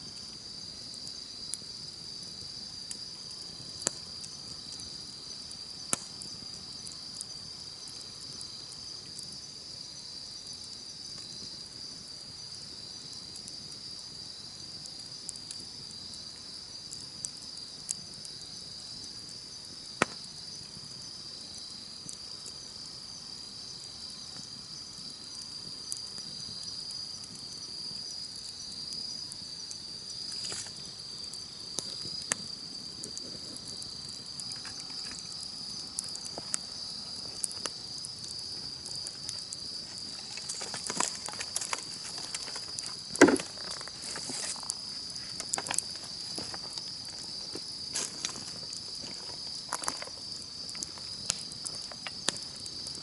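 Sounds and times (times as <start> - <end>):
campfire crackling and popping: 0.0 - 53.0
insects chirring: 0.0 - 53.0.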